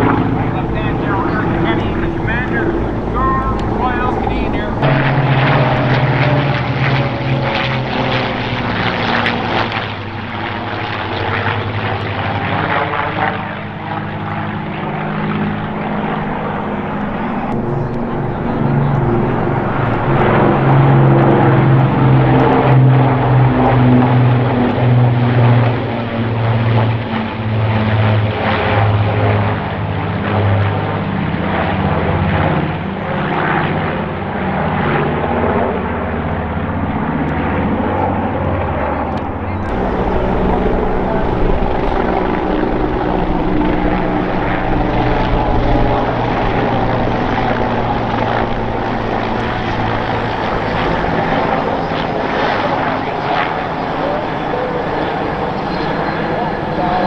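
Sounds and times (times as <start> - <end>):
propeller aircraft droning overhead: 0.0 - 57.0.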